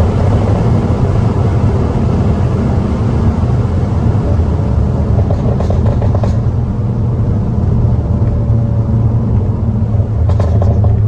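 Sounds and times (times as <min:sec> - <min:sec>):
car engine low exhaust note: 0:00.0 - 0:11.0.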